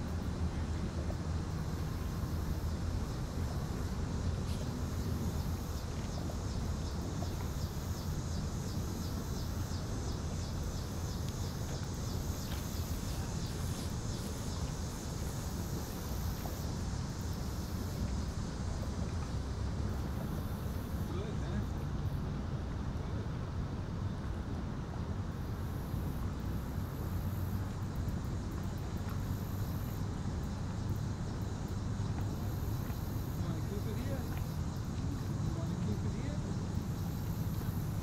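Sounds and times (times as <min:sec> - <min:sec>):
insects chirping: 0:00.0 - 0:38.0
low engine hum: 0:00.0 - 0:38.0.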